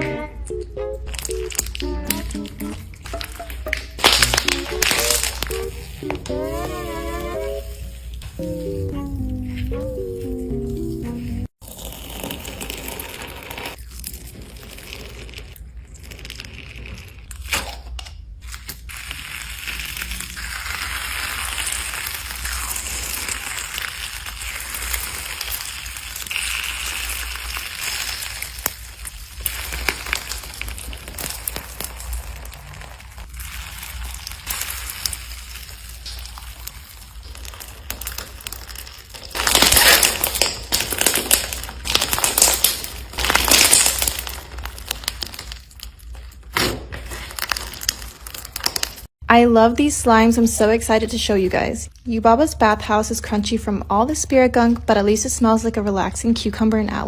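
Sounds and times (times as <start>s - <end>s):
slime crackling and crunching: 1.0s - 10.0s, 10.8s - 49.2s.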